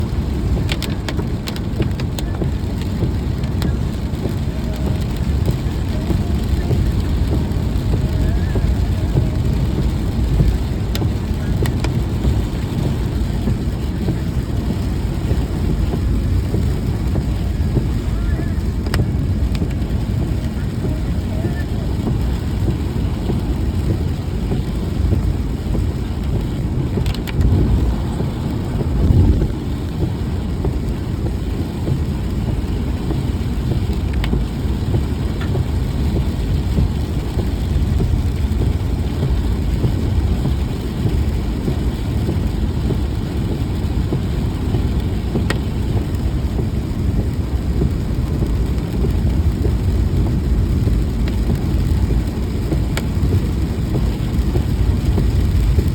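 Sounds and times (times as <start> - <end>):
car engine and road noise: 0.0 - 55.9
rain: 0.0 - 55.9.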